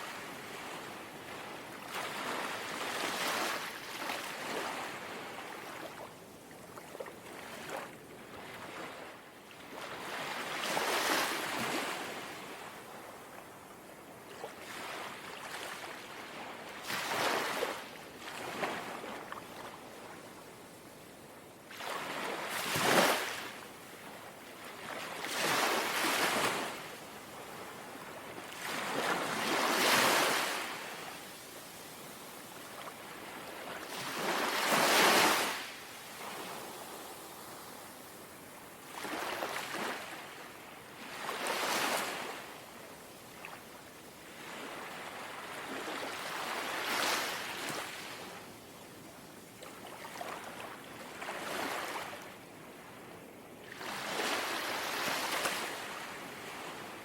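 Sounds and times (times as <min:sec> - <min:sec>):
gentle waves lapping on shore: 0:00.0 - 0:57.0.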